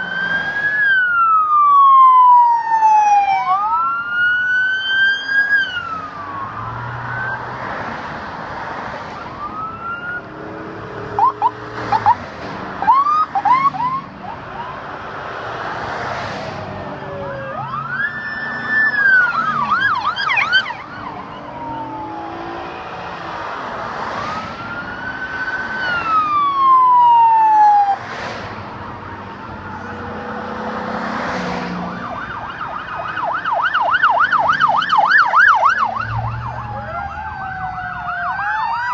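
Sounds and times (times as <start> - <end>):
police sirens wailing: 0.0 - 38.9
road noise of passing cars: 0.0 - 38.9.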